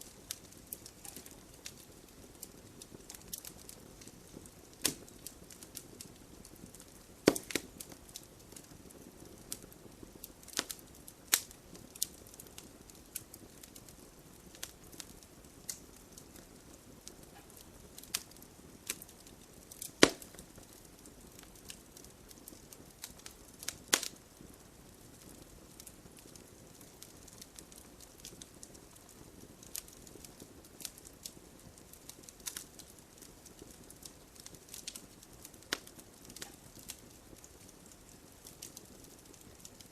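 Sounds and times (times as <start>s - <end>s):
faint steady hiss: 0.0s - 39.9s
logs crackling and popping: 0.0s - 39.9s.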